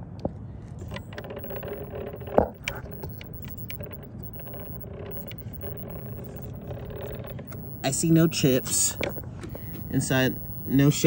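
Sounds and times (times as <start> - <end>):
faint steady hum: 0.6 - 11.0
small mechanical clicks and ticks: 0.8 - 11.0.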